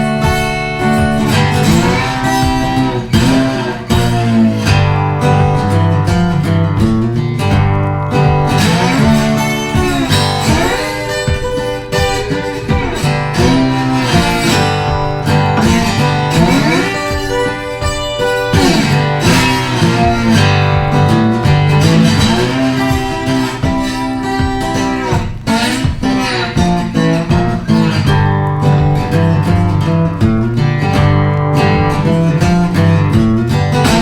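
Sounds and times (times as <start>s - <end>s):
plucked and strummed guitar music: 0.0s - 34.0s.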